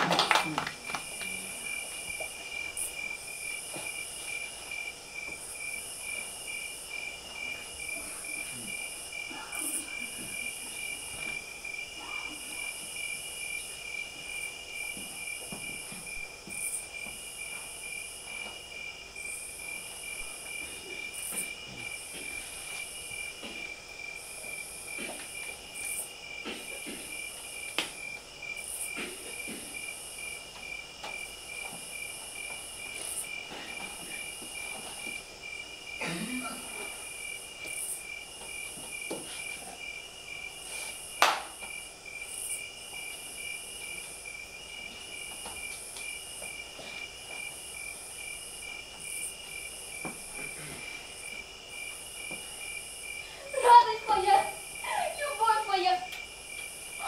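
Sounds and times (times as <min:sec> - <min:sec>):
crickets chirping: 0:00.0 - 0:57.0
high insect buzz: 0:00.0 - 0:57.0.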